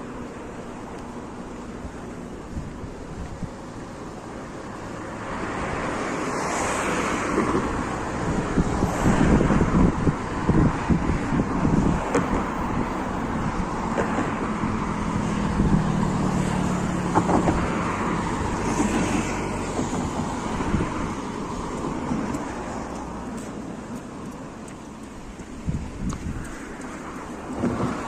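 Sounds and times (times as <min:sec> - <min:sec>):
road traffic noise: 0:00.0 - 0:28.0
vehicle engine hum: 0:00.0 - 0:28.0.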